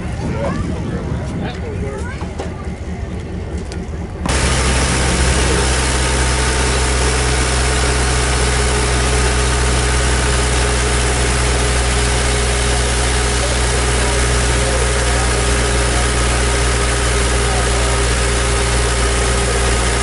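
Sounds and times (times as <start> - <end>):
air compressor engine running: 1.8 - 20.0.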